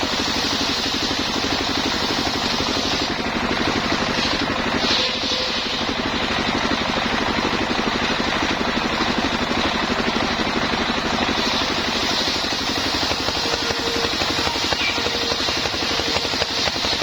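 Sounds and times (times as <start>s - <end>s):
sawmill engine running: 0.0s - 17.0s.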